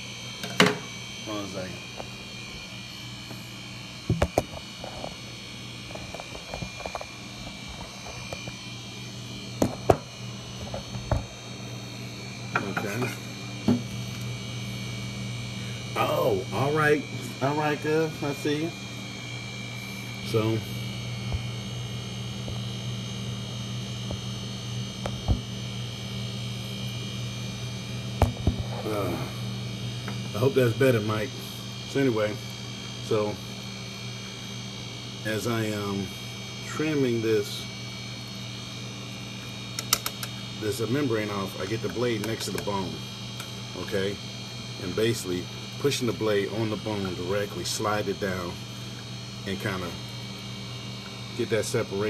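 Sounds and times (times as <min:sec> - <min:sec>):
electrical hum: 0:00.0 - 0:52.0.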